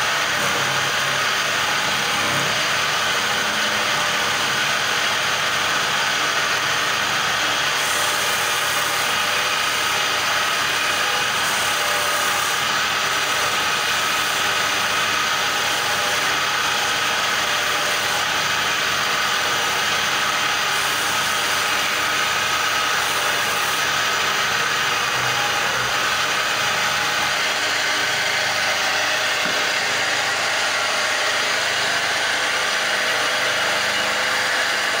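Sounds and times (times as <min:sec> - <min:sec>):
tool cutting spinning wood: 0:00.0 - 0:35.0
wood lathe turning: 0:00.0 - 0:35.0.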